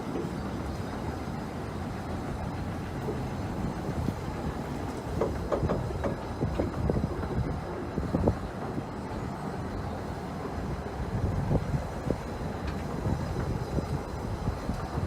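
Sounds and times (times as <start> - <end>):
small train rumbling on track: 0.0 - 15.0
train wheels clicking: 1.8 - 15.0.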